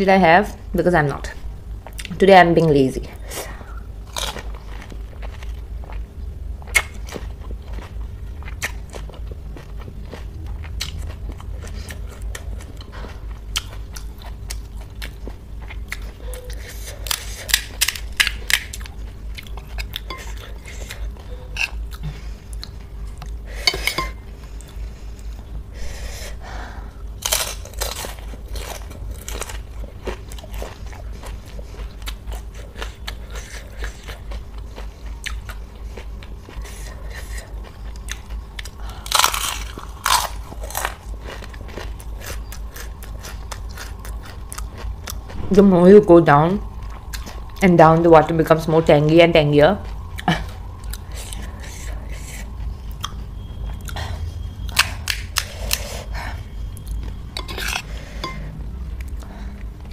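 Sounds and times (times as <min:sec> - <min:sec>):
crunching and chewing crisp shells: 0:03.2 - 0:45.5, 0:46.7 - 0:47.7, 0:49.7 - 0:59.9.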